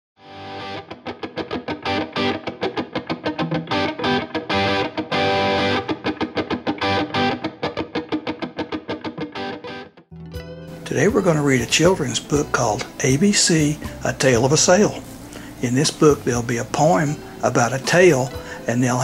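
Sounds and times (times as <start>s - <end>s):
guitar picking notes and chords: 0.2s - 19.0s.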